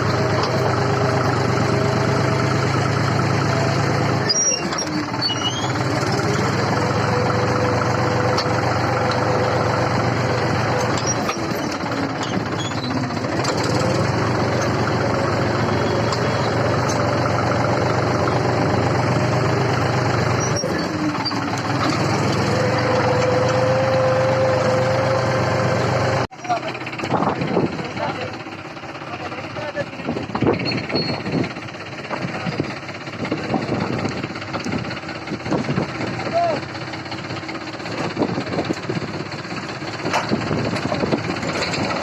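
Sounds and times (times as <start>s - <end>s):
tractor diesel engine revving: 0.0s - 42.0s.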